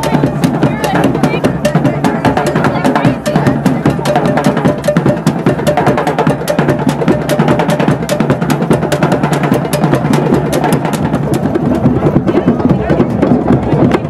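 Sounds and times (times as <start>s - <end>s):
hand drums playing fast rhythm: 0.0s - 14.0s.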